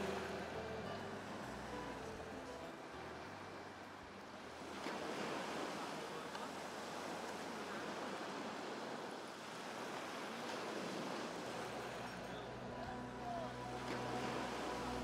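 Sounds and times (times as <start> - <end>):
sea surf washing on beach: 0.0 - 15.0.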